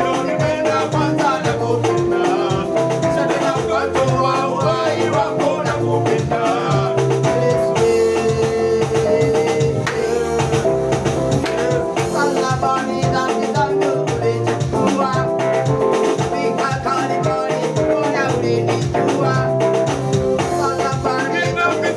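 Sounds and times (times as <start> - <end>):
upbeat song with singing: 0.0 - 21.9.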